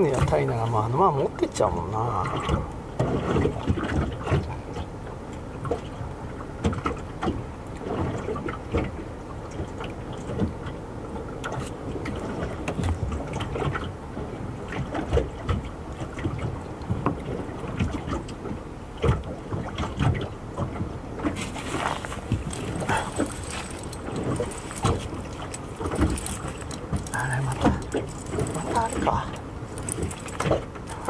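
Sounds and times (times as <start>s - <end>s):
low wind rumble on microphone: 0.0s - 31.0s
waves lapping against boat hull: 0.0s - 31.0s.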